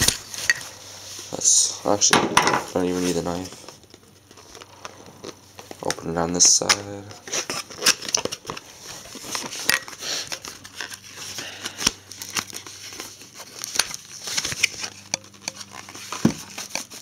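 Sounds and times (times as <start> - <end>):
packaging crinkling and tearing: 2.8 - 17.0.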